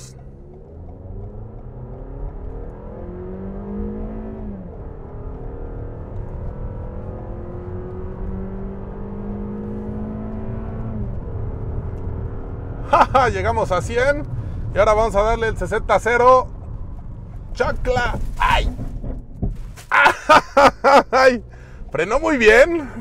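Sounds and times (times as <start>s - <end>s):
car engine accelerating: 0.0s - 19.6s, 20.3s - 23.0s.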